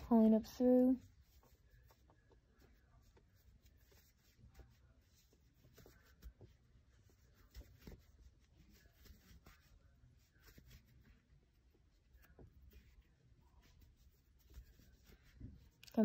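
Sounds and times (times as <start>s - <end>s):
yarn rustling and rubbing: 0.0s - 16.0s.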